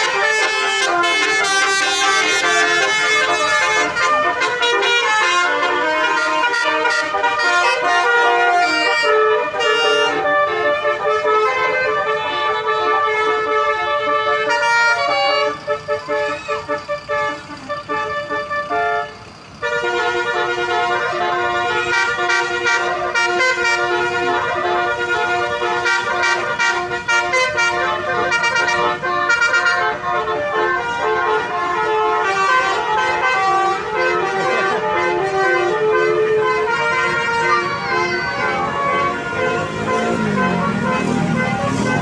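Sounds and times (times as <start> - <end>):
multi-tone air horns playing notes: 0.0 - 42.0.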